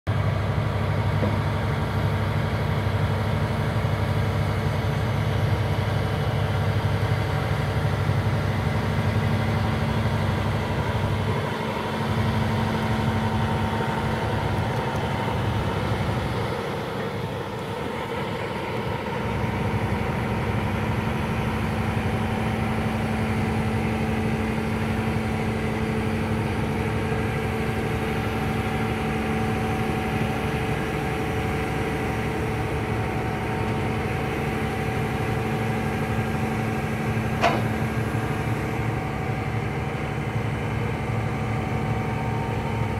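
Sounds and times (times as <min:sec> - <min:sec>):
excavator diesel engine running: 0:00.1 - 0:42.9.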